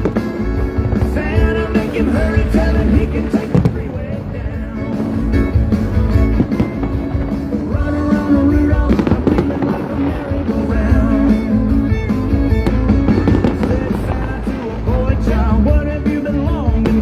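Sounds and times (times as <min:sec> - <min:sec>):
fireworks bangs: 0:00.0 - 0:17.0
music over loudspeakers: 0:00.0 - 0:17.0.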